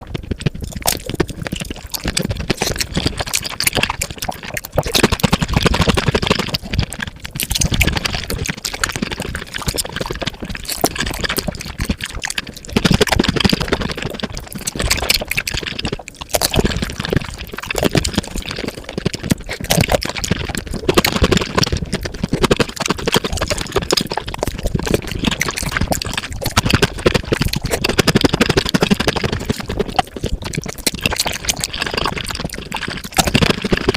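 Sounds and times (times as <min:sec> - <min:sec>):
wet chewing and slurping: 0:00.0 - 0:33.9.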